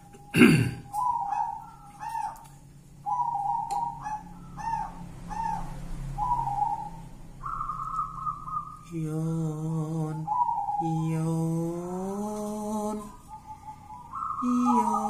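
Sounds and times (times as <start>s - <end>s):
dove cooing: 0.0s - 8.9s, 9.6s - 15.0s.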